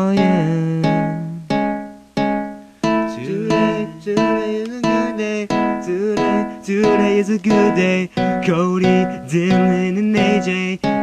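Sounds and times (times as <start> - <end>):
person singing: 0.0 - 1.6, 2.8 - 11.0
acoustic guitar strumming chords: 0.0 - 11.0.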